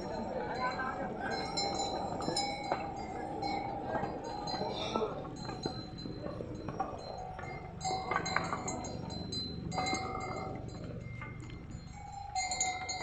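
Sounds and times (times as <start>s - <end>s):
animal bells jingling: 0.0s - 13.0s.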